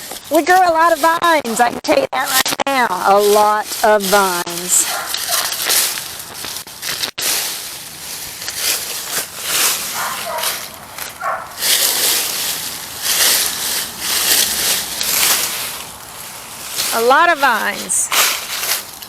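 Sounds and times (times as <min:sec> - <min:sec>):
leafy vines rustling: 0:00.0 - 0:19.0.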